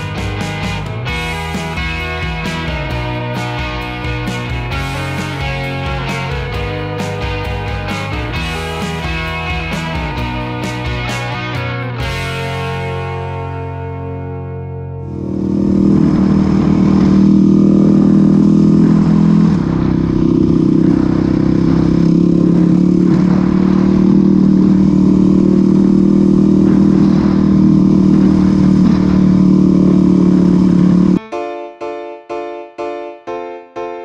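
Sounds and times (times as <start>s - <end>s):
dirt bike engine running: 0.0s - 13.7s, 15.0s - 31.2s.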